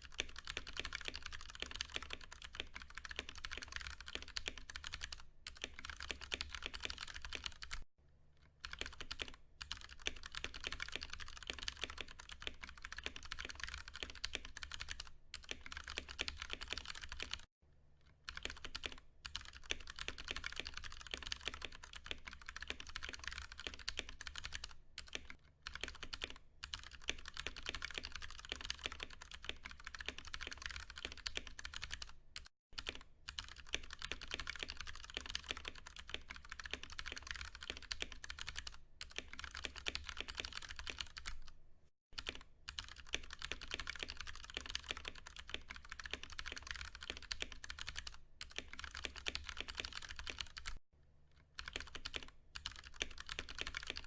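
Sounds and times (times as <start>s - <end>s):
fast typing on mechanical keyboard: 0.0s - 7.9s, 8.6s - 17.5s, 18.3s - 41.6s, 42.2s - 50.8s, 51.6s - 54.0s.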